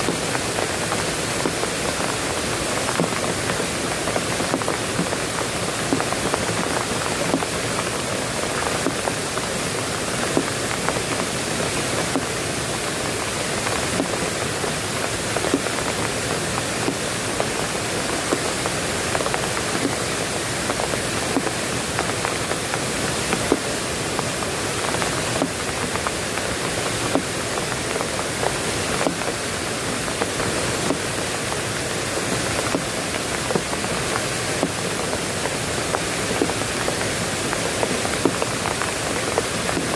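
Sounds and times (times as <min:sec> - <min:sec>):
raindrops hitting close by: 0:00.0 - 0:39.9
steady rain hiss: 0:00.0 - 0:39.9.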